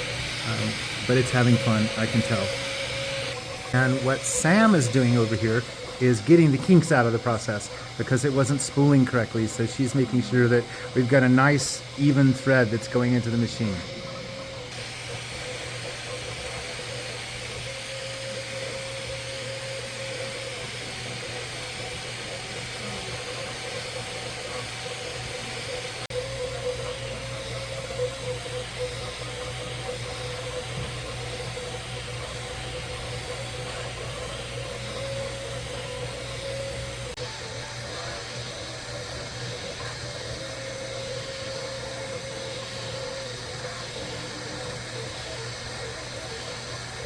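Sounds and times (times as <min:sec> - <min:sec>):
printer fan hiss and hum: 0:00.0 - 0:47.0
stepper motors whining: 0:00.0 - 0:47.0.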